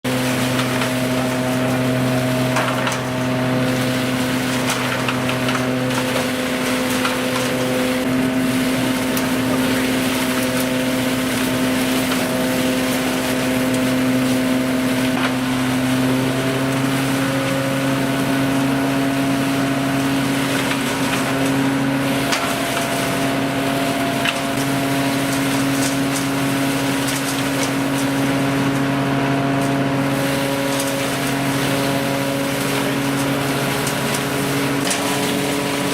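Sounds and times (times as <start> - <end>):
leaf vacuum droning: 0.0 - 35.9.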